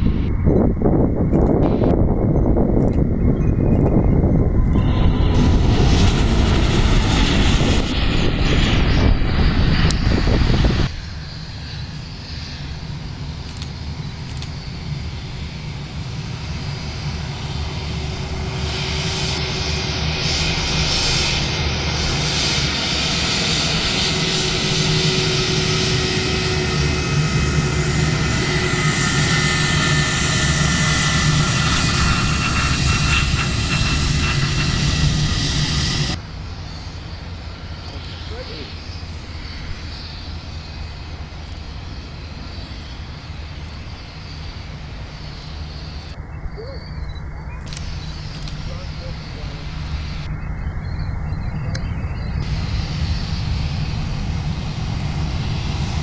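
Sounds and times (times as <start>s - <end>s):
jet approaching with high whine: 0.0s - 56.0s
jet engine noise: 0.0s - 56.0s.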